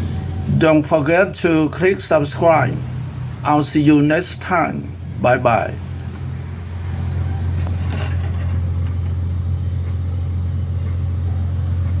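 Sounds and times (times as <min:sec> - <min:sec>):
low-pitched hum: 0:00.0 - 0:12.0.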